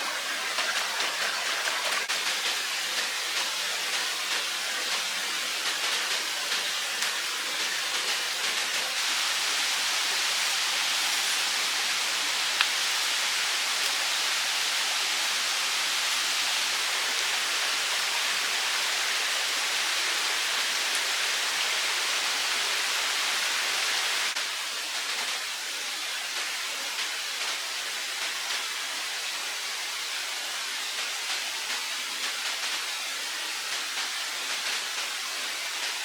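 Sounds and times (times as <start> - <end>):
running water rushing: 0.0 - 36.0.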